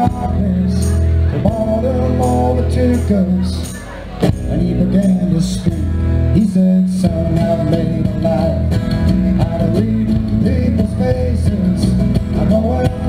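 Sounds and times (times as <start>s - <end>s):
country song with guitar: 0.0s - 13.0s.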